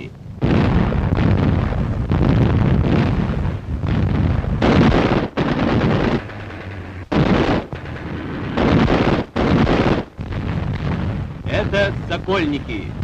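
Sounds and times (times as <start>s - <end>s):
anti-aircraft guns firing: 0.4s - 12.9s.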